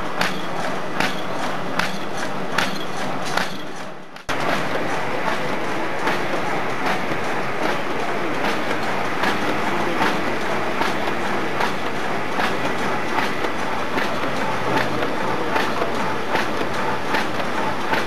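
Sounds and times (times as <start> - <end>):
machine clattering: 0.0 - 18.0
sharp machine clack: 0.0 - 18.0.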